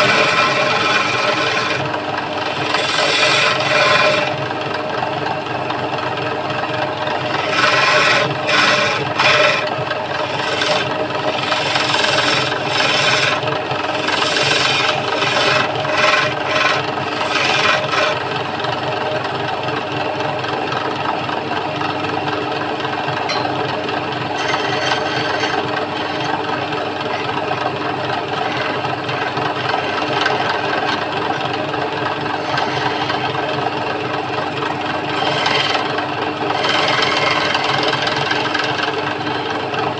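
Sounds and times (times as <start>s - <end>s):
chisel scraping spinning wood: 0.0s - 39.9s
wood lathe motor hum: 0.0s - 39.9s.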